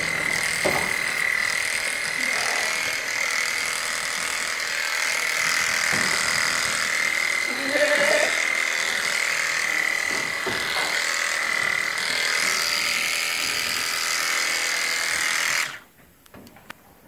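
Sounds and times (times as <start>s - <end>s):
electric shears whining: 0.0s - 15.9s.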